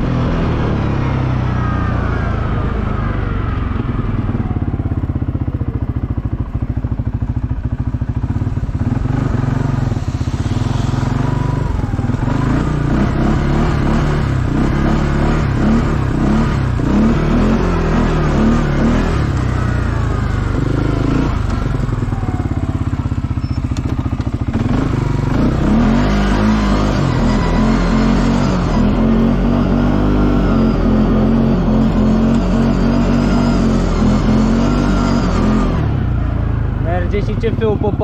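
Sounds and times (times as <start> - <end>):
atv engine revving and idling: 0.0 - 38.0.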